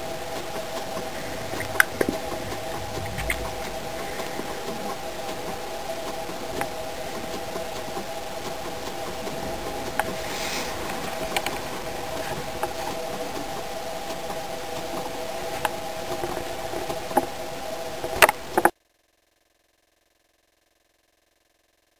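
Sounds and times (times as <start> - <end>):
machine hum: 0.0 - 18.1.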